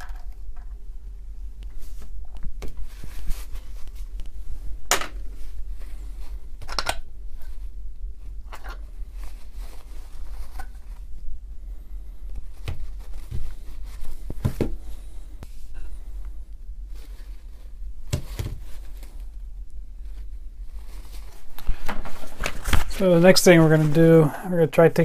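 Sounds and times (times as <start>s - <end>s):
low hum: 0.0s - 25.0s
paper towel rustling: 1.7s - 16.3s, 16.9s - 25.0s.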